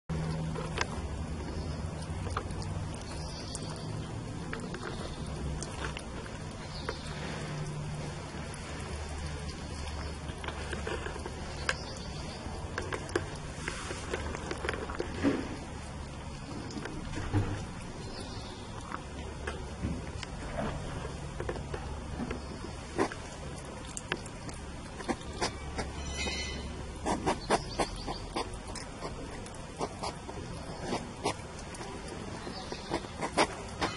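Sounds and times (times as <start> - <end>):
hedgehog eating crunching: 0.1 - 33.9
low background hum: 0.1 - 33.9.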